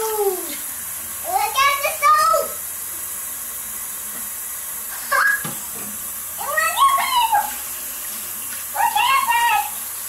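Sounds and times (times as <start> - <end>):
faucet water running into sink: 0.0 - 10.0.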